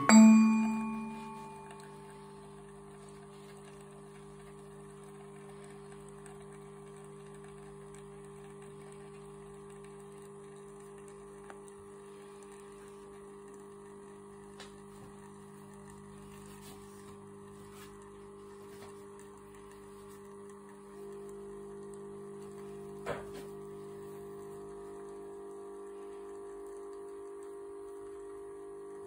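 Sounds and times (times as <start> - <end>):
coffee machine pump humming: 0.0 - 29.0.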